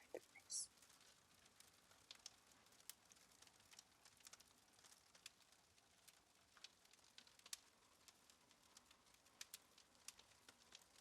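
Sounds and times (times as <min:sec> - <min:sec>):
faint small clicks and ticks: 0:00.0 - 0:11.0.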